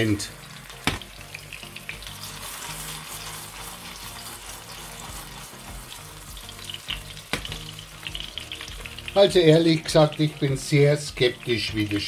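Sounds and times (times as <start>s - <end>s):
patty sizzling in hot oil: 0.0s - 12.0s.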